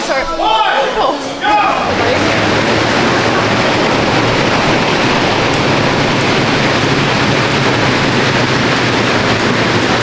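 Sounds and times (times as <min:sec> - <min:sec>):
air bike fan whooshing: 0:01.5 - 0:10.0.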